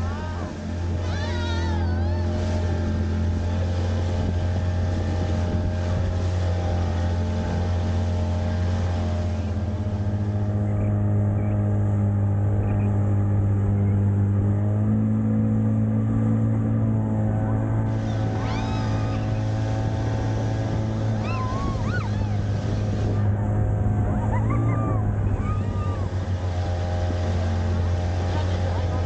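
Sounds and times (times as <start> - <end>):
outboard motor humming: 0.0 - 29.0
water rushing from wake: 0.0 - 29.0.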